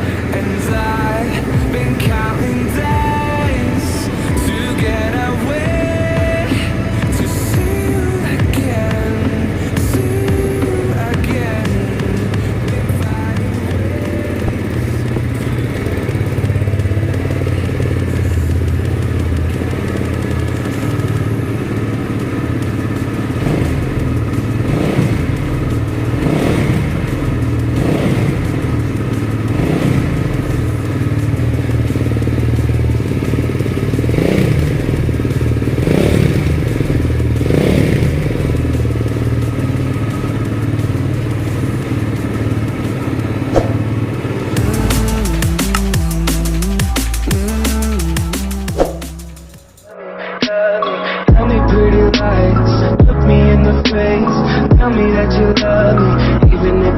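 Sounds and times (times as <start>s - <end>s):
motorcycle throttle blips: 0.0s - 49.8s
motorcycle exhaust idling: 0.0s - 49.9s, 51.3s - 56.9s.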